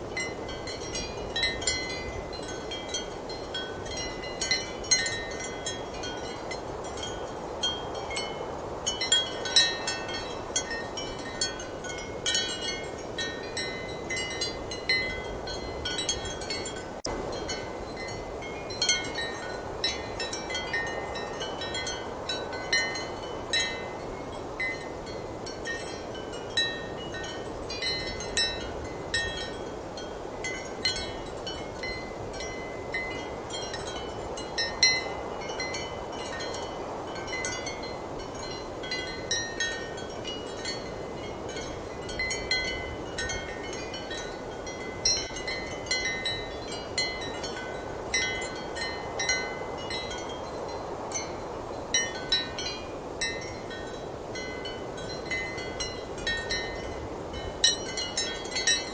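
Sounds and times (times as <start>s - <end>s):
ceramic wind chimes clinking: 0.0s - 58.9s.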